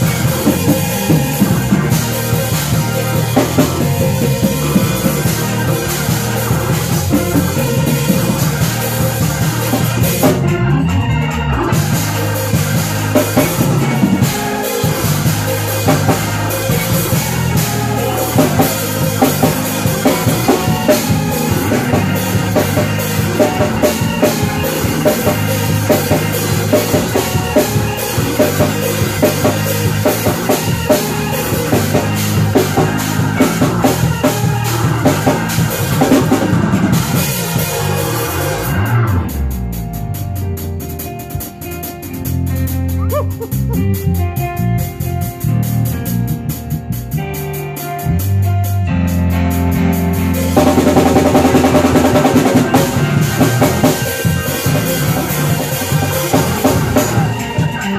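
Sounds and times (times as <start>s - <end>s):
bass: 0.0s - 57.9s
drum kit playing busily: 0.0s - 57.9s
live band playing: 0.0s - 57.9s
organ: 0.0s - 57.9s.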